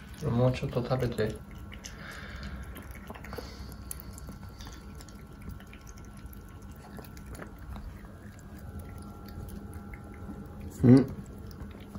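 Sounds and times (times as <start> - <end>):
puppy eating wet food: 0.0 - 11.9.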